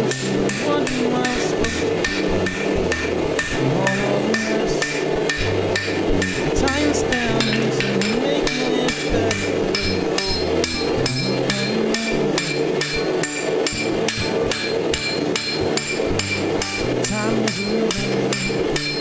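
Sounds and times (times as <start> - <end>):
hammer blows on anvil: 0.1 - 19.0.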